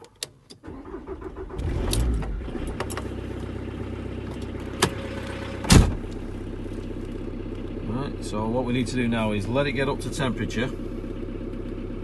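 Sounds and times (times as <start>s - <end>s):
diesel engine starting and idling: 0.3s - 12.0s.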